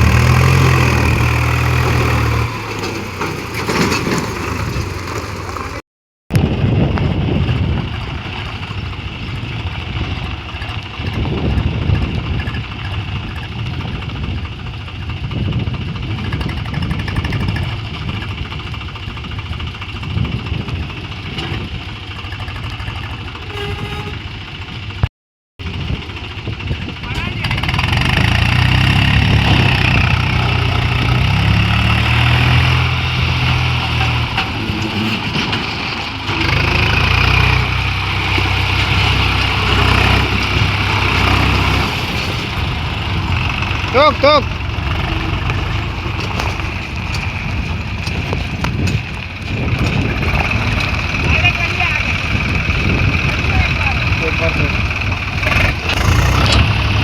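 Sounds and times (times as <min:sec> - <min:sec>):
tractor diesel engine idling: 0:07.3 - 0:28.8, 0:32.8 - 0:57.0.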